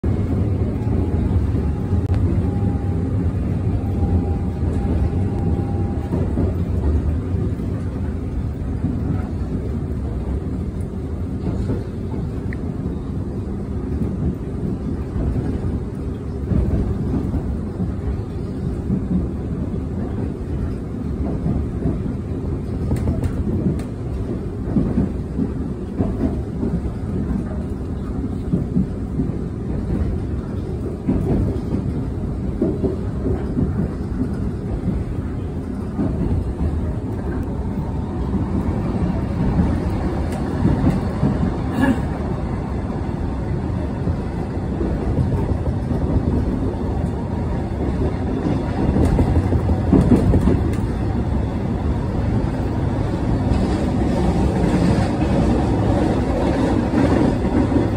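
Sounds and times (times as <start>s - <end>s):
train rumbling on rails: 0.0s - 57.9s.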